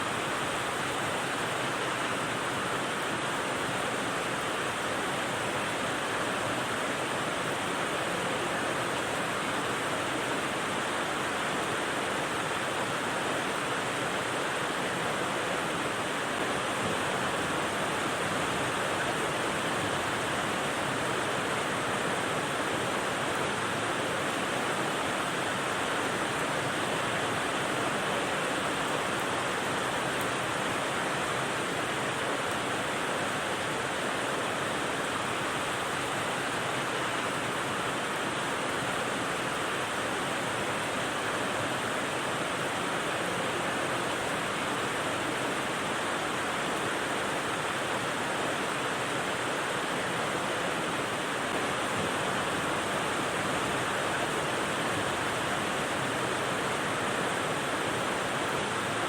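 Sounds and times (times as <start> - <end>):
rain white noise: 0.0 - 59.0.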